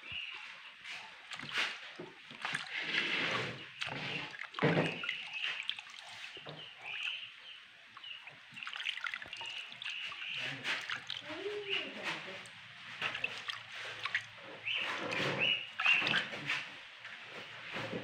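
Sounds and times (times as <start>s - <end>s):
hands sloshing water in basin: 0.0s - 18.0s
water trickling into basin: 0.1s - 17.9s.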